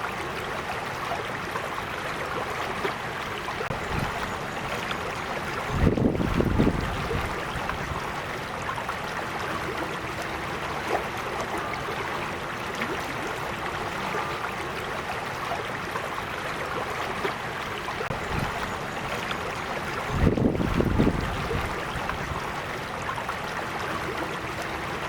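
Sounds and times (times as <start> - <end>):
creek flowing over rocks: 0.0 - 25.0.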